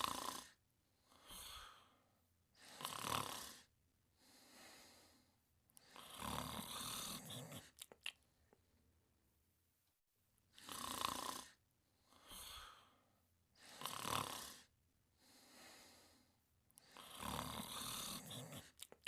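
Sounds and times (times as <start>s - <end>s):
loud snoring breaths: 0.0s - 7.8s, 10.5s - 18.9s
soft breaths: 0.0s - 9.0s, 10.5s - 19.0s.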